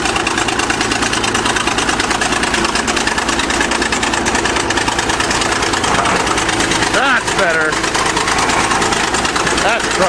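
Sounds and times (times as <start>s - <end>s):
bulldozer diesel engine pulsing: 0.0s - 10.0s.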